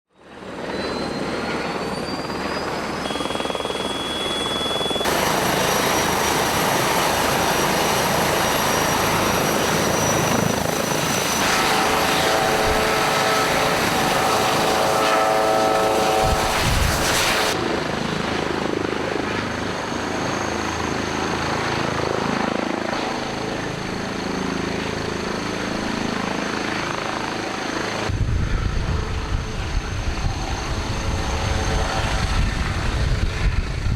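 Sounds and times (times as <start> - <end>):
helicopter turbine whine: 0.1 - 33.9
helicopter rotor noise: 0.2 - 33.9.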